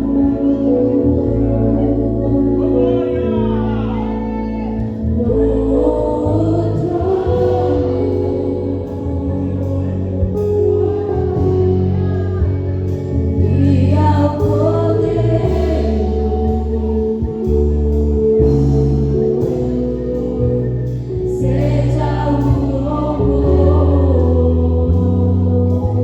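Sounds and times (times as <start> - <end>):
gospel singing over instruments: 0.0 - 26.0
steady bass notes: 0.0 - 26.0.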